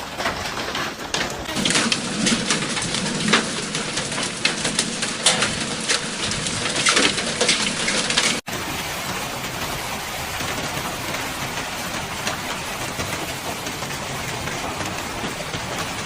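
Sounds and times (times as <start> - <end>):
hailstones pelting hard surfaces: 0.0 - 16.0.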